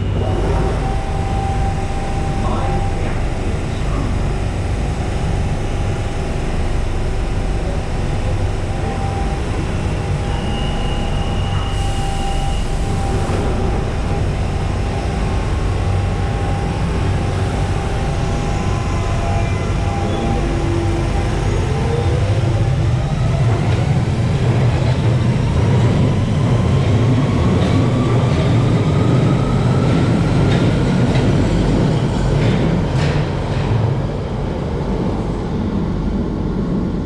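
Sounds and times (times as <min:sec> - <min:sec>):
high-pitched whine: 0:00.0 - 0:31.2
underground train rumble: 0:00.0 - 0:37.0.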